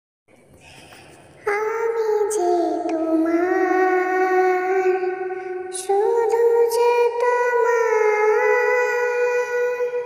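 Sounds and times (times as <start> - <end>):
high voice singing slowly: 0.6 - 10.0.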